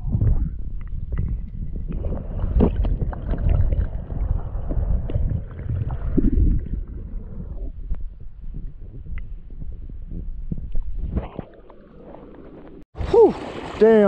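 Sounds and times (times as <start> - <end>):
muffled underwater stream rumble: 0.0 - 12.8.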